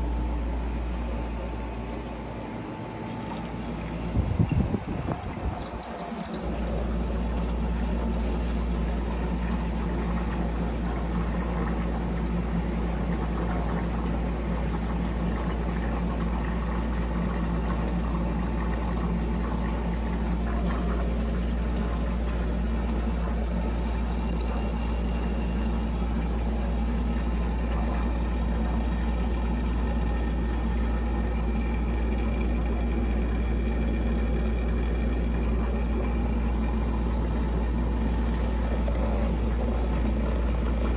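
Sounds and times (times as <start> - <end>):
water pump humming: 0.0 - 40.9
water flowing into trays: 1.8 - 40.9.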